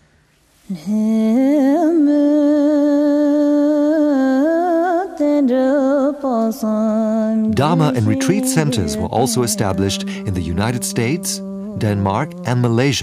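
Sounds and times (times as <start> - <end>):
person singing wordless melody: 0.7 - 13.0.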